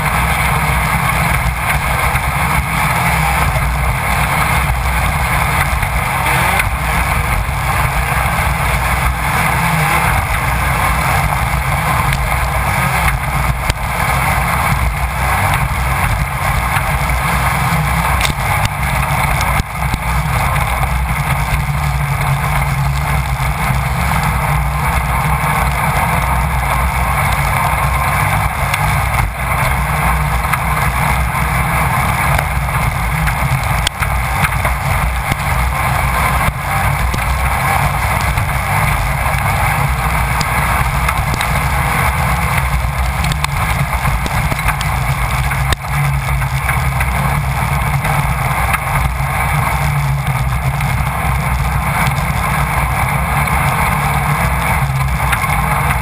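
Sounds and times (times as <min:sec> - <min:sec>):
race car engine running hard: 0:00.0 - 0:56.0
wind noise on microphone: 0:00.0 - 0:56.0.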